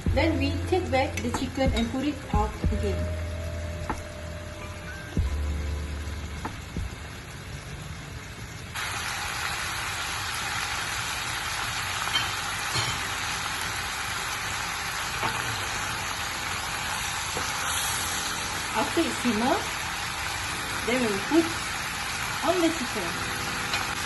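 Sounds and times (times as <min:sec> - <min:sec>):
sauce sizzling in a frying pan: 0:00.0 - 0:24.0.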